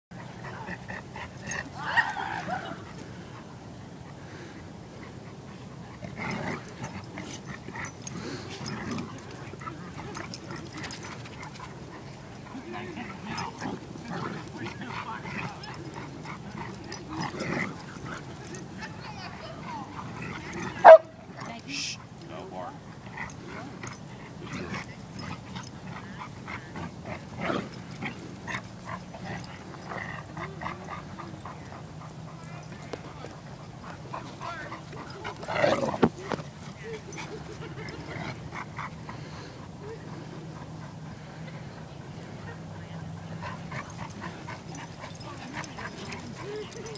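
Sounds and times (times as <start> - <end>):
dogs play growling: 0.2 - 46.9.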